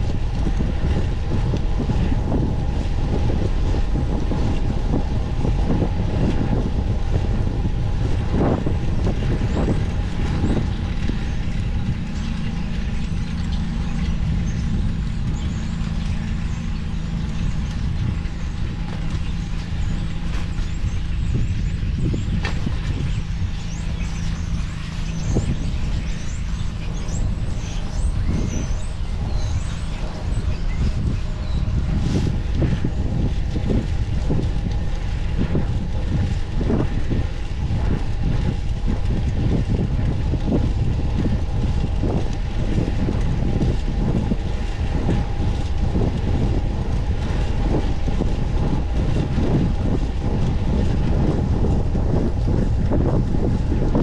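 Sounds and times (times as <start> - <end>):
motor vehicle humming: 0.0 - 54.0
wind on microphone: 0.0 - 54.0.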